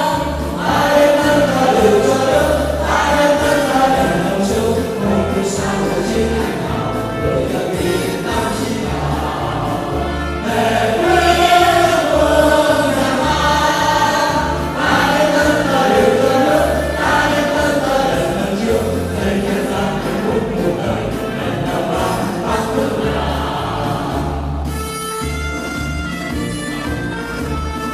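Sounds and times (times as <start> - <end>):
choir singing: 0.0 - 24.8
pulsing bass line: 0.0 - 27.9.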